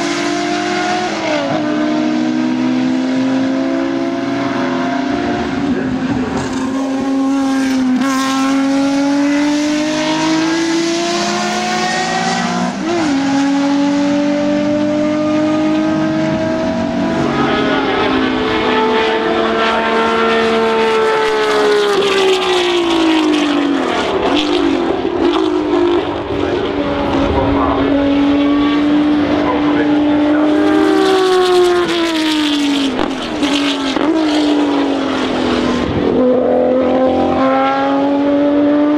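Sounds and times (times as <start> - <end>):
race car engines screaming: 4.3 - 38.9.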